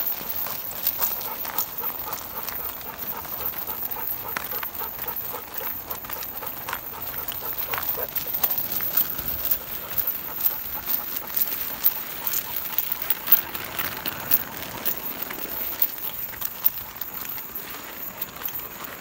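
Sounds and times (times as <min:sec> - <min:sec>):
footsteps on concrete: 0:00.0 - 0:19.0.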